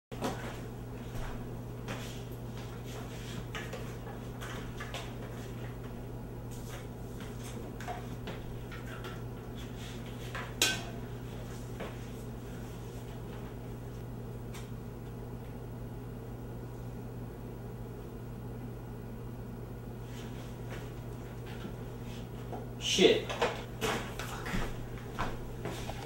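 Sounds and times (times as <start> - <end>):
steady low hum: 0.1 - 26.0.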